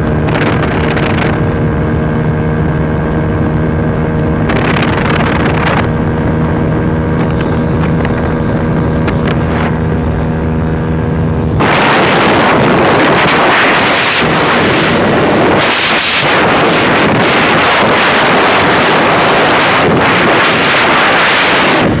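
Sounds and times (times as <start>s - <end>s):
motorcycle engine at high revs: 0.0s - 22.0s
wind buffeting microphone: 0.0s - 22.0s.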